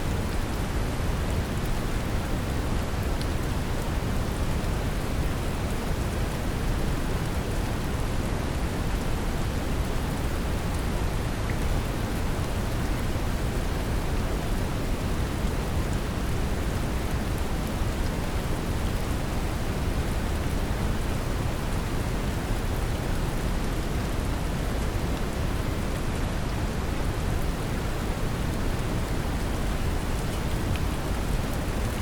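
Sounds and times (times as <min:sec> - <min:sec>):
gentle rain hiss: 0:00.0 - 0:32.0.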